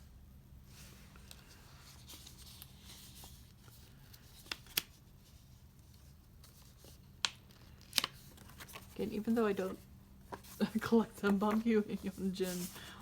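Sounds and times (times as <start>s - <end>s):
paper rustling: 0.7s - 13.0s.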